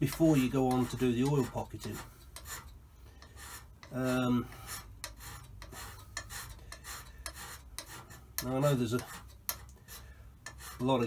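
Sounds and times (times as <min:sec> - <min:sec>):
hand scraper rasping on metal: 0:00.0 - 0:11.0.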